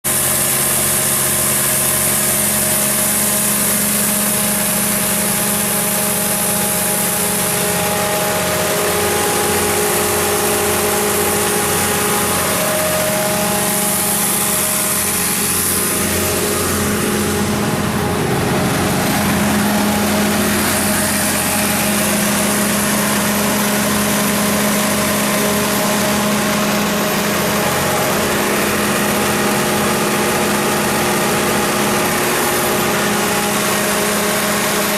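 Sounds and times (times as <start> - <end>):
diesel generator engine droning: 0.0 - 34.9.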